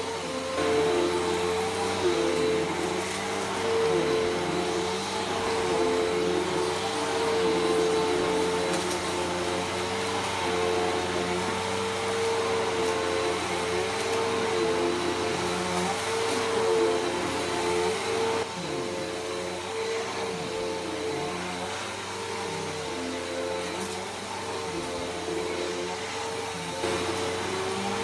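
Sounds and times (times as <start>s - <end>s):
upright vacuum cleaner running: 0.0s - 28.0s.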